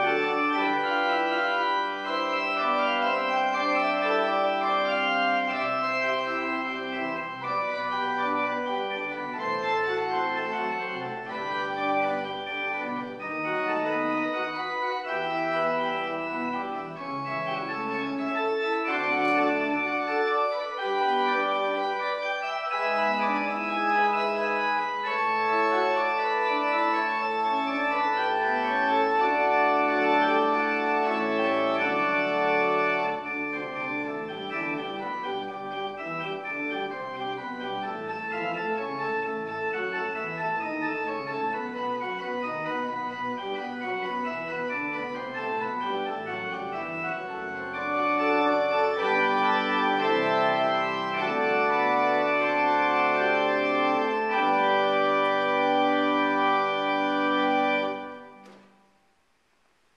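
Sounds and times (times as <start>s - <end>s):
church organ chords: 0.0s - 58.6s.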